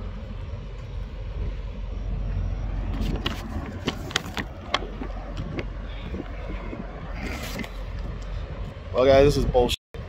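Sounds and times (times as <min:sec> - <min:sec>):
truck engines idling: 0:00.0 - 0:09.4.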